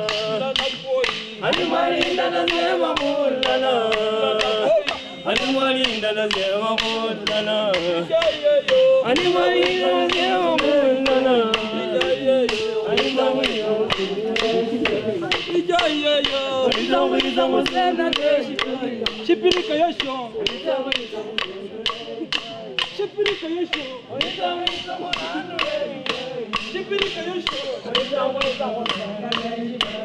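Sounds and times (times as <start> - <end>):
steady beat of sharp strokes: 0.0 - 30.0
voices singing together: 0.0 - 30.0.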